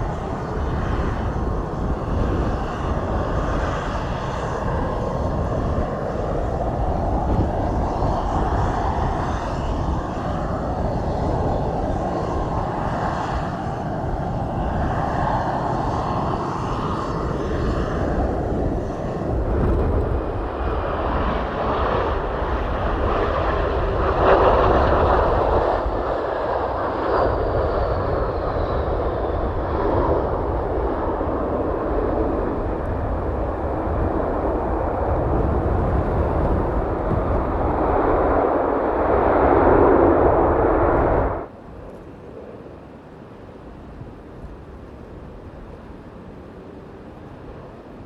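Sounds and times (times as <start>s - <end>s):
airplane engines passing: 0.0s - 48.0s.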